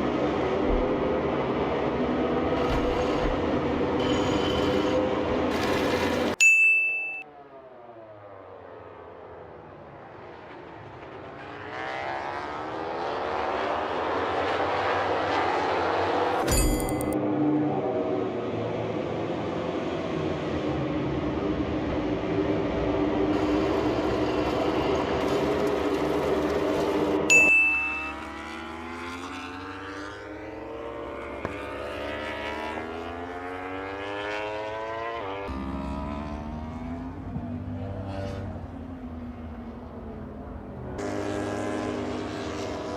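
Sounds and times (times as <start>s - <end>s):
racing motorcycle engines: 7.1s - 42.9s.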